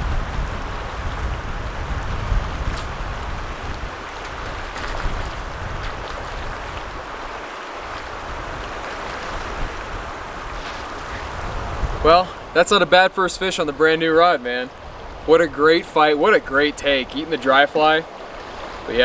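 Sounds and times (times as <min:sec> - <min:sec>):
wind buffeting microphone: 0:00.0 - 0:13.8, 0:14.7 - 0:17.4
river rushing over stones: 0:00.0 - 0:19.0.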